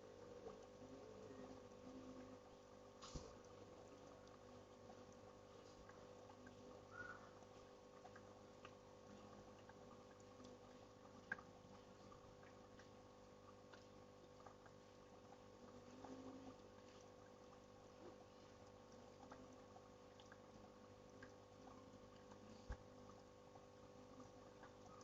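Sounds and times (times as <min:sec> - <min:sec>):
small clicks and drips: 0:00.0 - 0:25.0.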